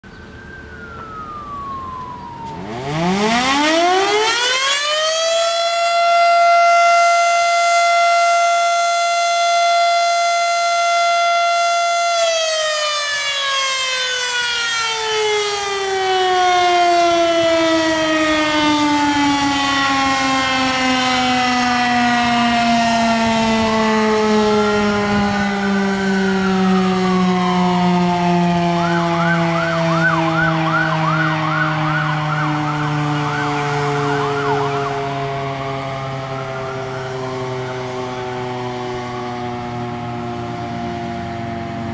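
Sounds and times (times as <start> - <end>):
faint sweeping siren tones: 0.0 - 41.9
tornado siren alert tone: 0.0 - 41.9.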